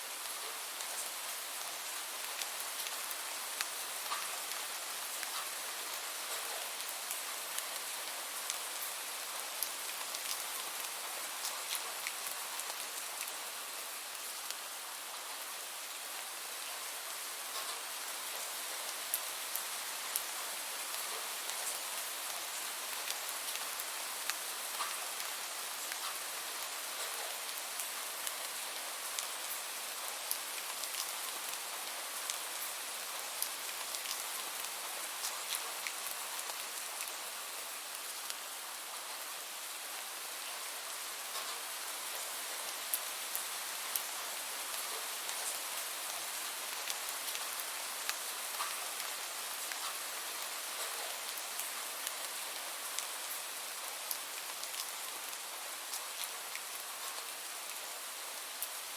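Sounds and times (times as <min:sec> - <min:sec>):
raindrops ticking on a surface: 0:00.1 - 0:16.0, 0:16.6 - 0:58.9.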